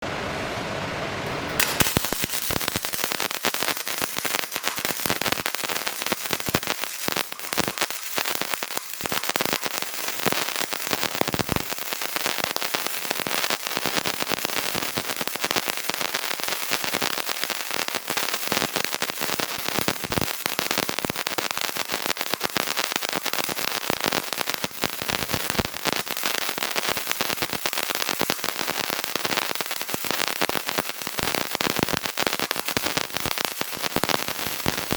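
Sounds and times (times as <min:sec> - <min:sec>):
welding arc crackling: 0:01.3 - 0:34.9.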